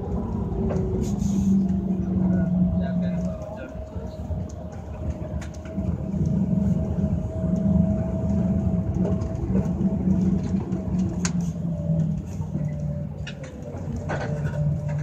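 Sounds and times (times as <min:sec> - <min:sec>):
diesel engine drone with whine: 0:00.0 - 0:15.0
faint clicks and rattles: 0:00.0 - 0:15.0.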